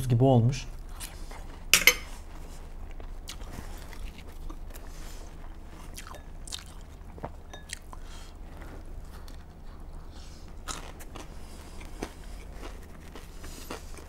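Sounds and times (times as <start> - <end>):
person chewing watermelon: 0.8 - 14.0.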